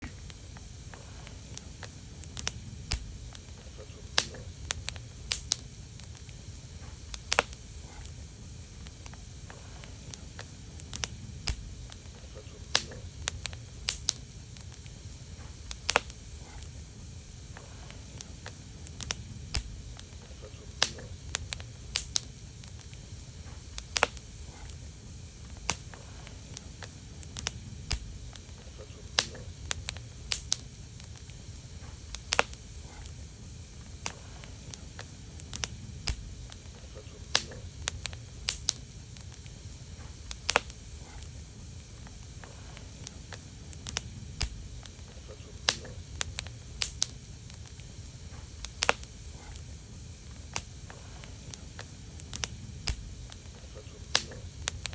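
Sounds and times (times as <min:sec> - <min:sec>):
fire crackling and popping: 0:00.0 - 0:54.9
fire rumbling: 0:00.0 - 0:54.9.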